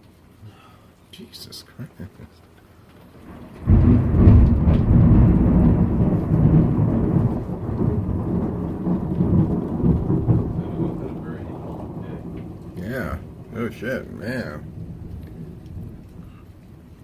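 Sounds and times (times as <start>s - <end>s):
thunder crash and rumble: 3.3s - 17.0s.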